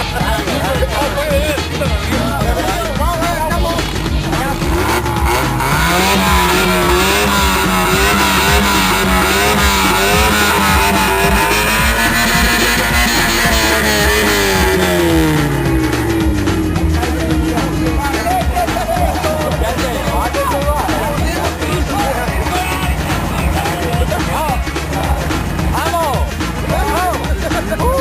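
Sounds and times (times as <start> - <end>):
music playing: 0.0 - 28.0
truck engine revving: 0.0 - 28.0.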